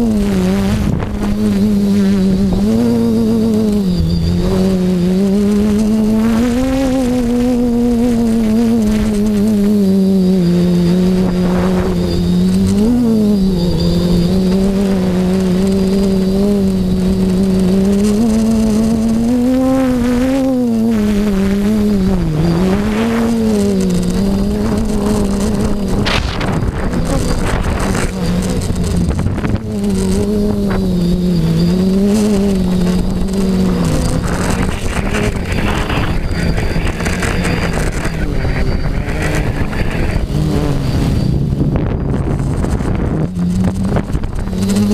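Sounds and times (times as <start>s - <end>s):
drone motors buzzing: 0.0s - 44.9s
wind rushing over microphone: 0.0s - 44.9s.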